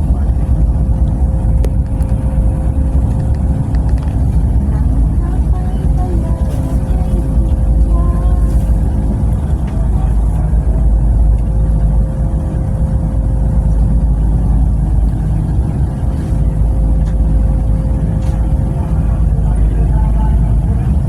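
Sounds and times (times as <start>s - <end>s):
constant hum: 0.0s - 21.0s
train rumble inside carriage: 0.0s - 21.0s.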